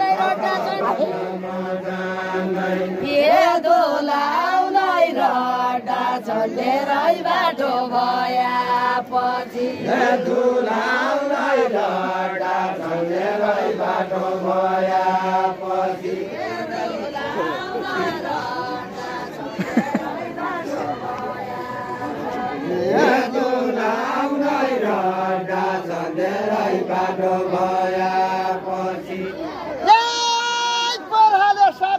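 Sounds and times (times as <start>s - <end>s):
group of voices singing in unison: 0.0s - 31.1s.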